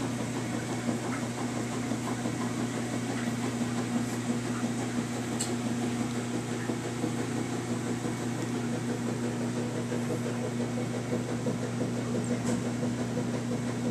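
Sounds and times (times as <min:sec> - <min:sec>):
low electrical motor hum: 0:00.0 - 0:13.9.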